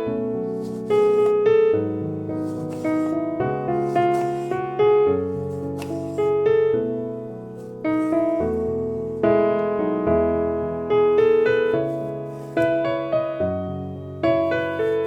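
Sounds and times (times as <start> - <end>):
soft slow piano music: 0.0 - 15.0.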